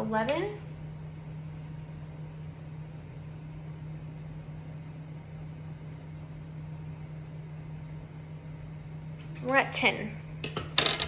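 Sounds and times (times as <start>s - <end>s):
household machinery humming: 0.0s - 11.0s.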